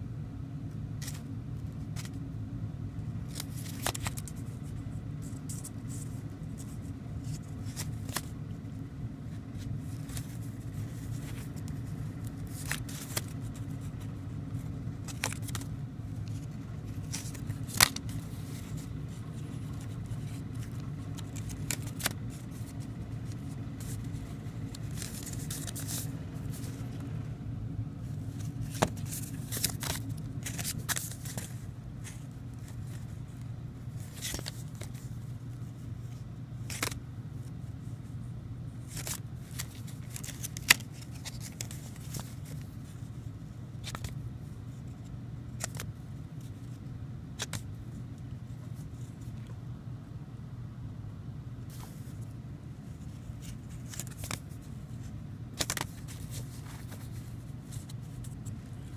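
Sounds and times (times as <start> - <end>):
steady low hum: 0.0 - 58.9
paper envelopes rustling: 1.0 - 2.2, 3.2 - 27.3, 27.9 - 38.2, 38.8 - 49.6, 51.6 - 58.9.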